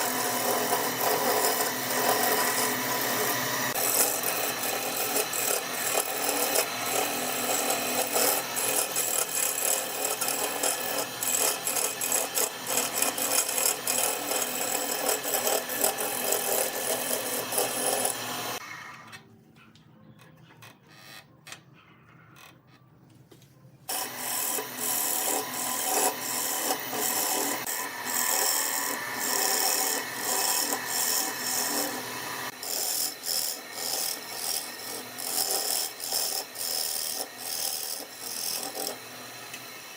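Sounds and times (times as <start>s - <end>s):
tool cutting wood on a lathe: 0.0s - 19.1s, 23.9s - 39.9s.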